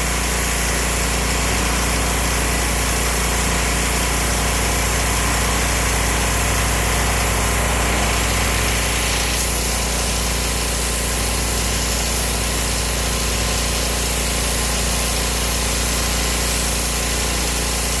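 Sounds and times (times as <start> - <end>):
pressure washer engine running: 0.0 - 18.0.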